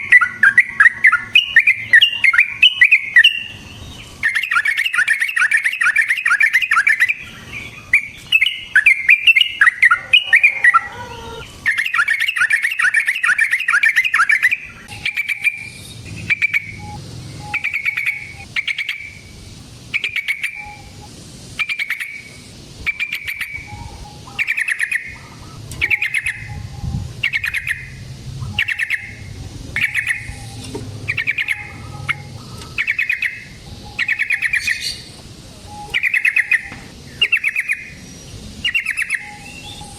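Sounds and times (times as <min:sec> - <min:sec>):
bird song: 0:00.0 - 0:39.9.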